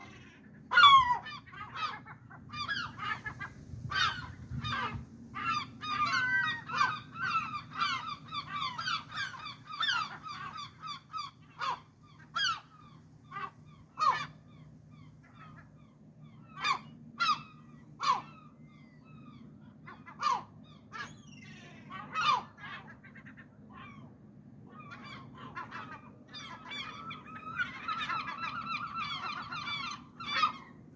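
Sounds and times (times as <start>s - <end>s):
gulls yelping calls: 0.0s - 30.9s.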